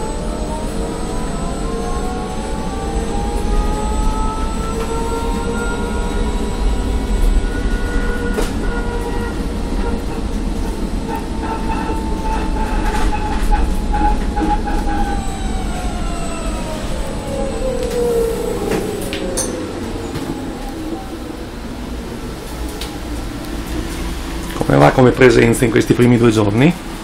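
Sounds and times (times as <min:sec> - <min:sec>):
electric motor whine: 0:00.0 - 0:24.8
bus interior rumble: 0:00.0 - 0:27.0.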